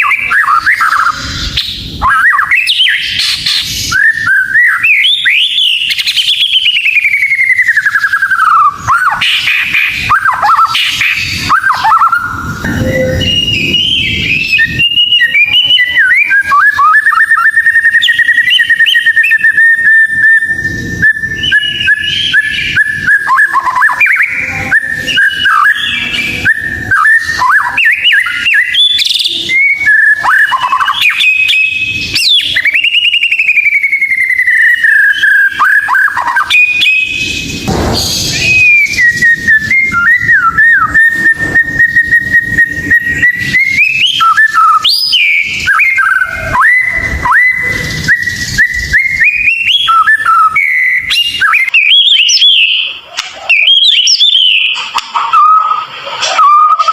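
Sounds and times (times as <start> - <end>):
harsh noisy bird note: 0.0 - 55.9
bird singing whistled notes: 0.0 - 56.9.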